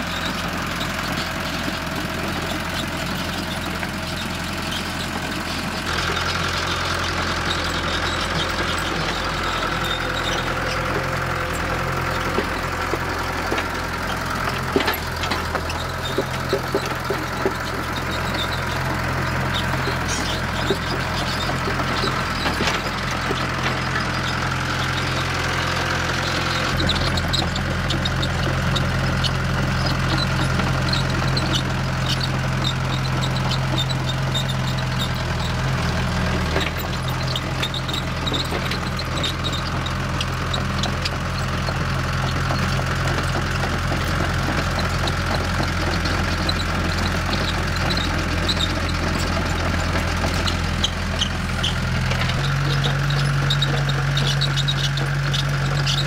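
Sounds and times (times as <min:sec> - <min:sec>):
excavator diesel engine running: 0:00.0 - 0:56.0
clanks: 0:01.1 - 0:56.0.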